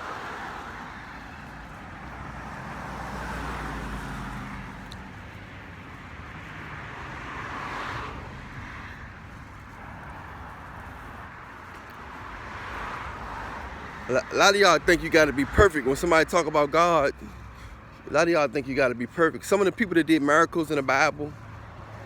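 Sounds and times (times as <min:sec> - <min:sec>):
road traffic rush: 0:00.0 - 0:22.0.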